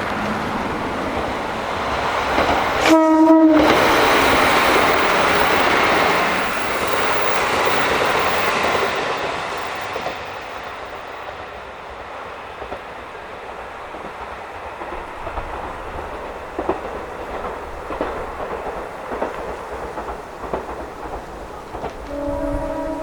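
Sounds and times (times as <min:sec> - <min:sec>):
diesel railcar rumbling past: 0:00.0 - 0:23.0
wind and rain: 0:00.0 - 0:23.0.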